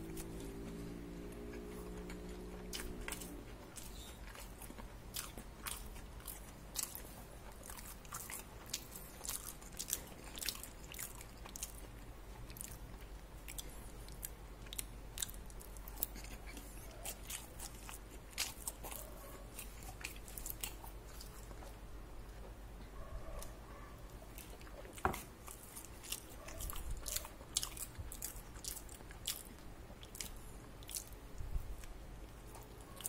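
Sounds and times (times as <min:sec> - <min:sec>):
person chewing crunchy food: 0:00.0 - 0:21.9, 0:24.3 - 0:33.0.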